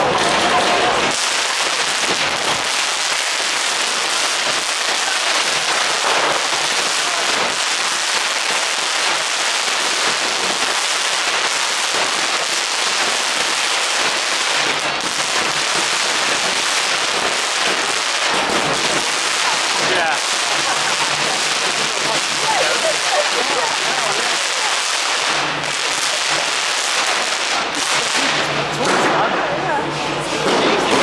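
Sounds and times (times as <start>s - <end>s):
firecrackers crackling rapidly: 0.0s - 31.0s.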